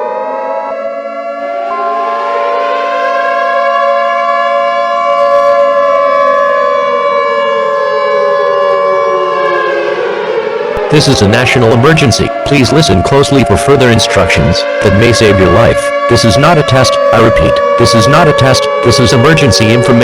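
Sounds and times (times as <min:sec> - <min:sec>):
civil defense siren wailing: 0:00.0 - 0:20.0.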